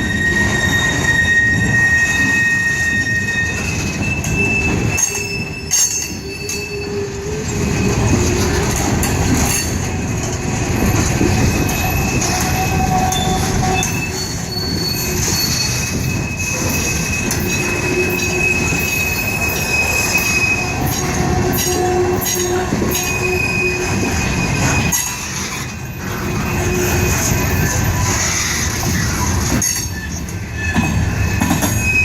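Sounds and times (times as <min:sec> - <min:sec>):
high wheel squeals: 0:00.0 - 0:08.8, 0:10.8 - 0:32.0
train wheels rumbling on rail: 0:00.0 - 0:32.0.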